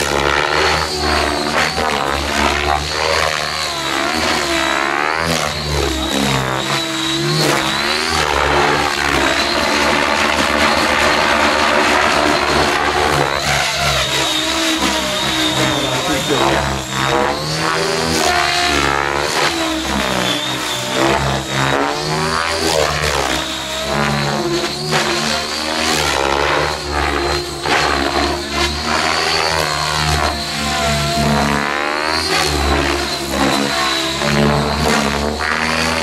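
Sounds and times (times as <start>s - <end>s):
electric motor whine: 0.0s - 36.0s
helicopter rotor chop: 0.0s - 36.0s.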